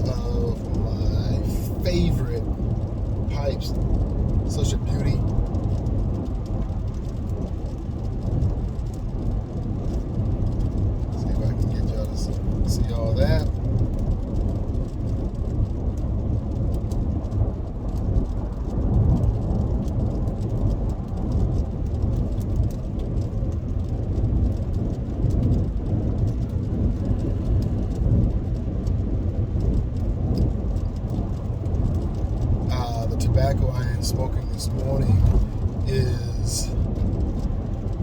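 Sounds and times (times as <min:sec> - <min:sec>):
car cabin rumble: 0:00.0 - 0:38.0
raindrops ticking on car: 0:00.0 - 0:38.0.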